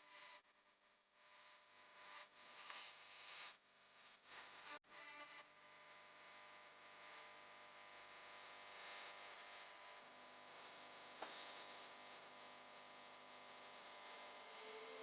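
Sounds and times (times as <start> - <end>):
faint hum and hiss: 0.0 - 15.0.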